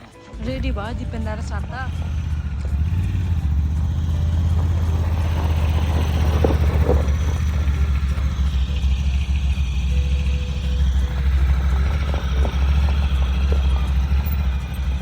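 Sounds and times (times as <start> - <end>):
atv engine rumbling: 0.0 - 15.0.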